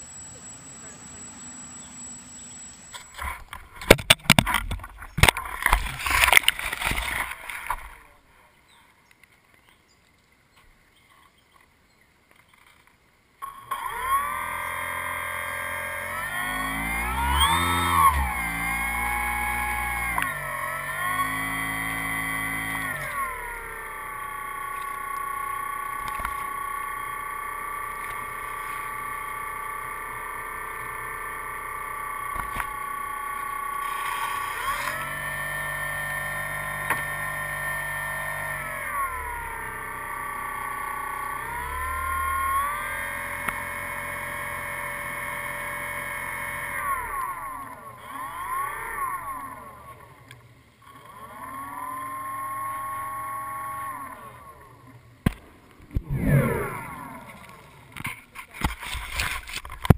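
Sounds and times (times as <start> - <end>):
propeller motor whining: 0.0 - 8.3, 13.4 - 59.9.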